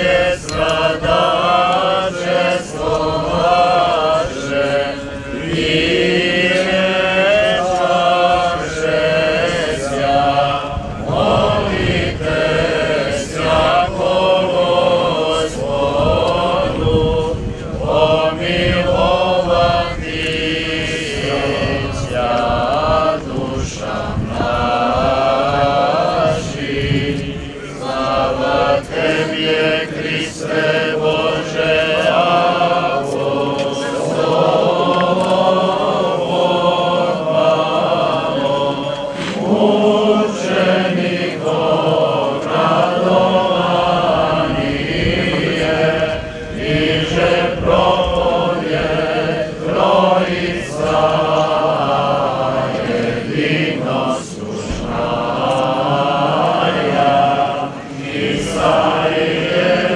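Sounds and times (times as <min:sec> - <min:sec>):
men chanting: 0:00.0 - 0:59.9.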